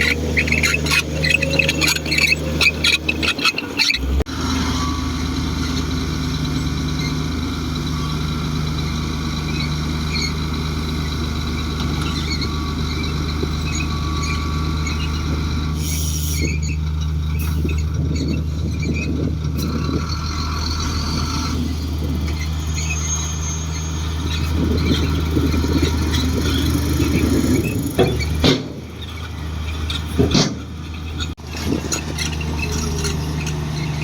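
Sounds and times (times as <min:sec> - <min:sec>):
high-pitched squealing tones: 0:00.0 - 0:05.8, 0:09.4 - 0:34.0
bulldozer diesel engine running: 0:00.0 - 0:34.0.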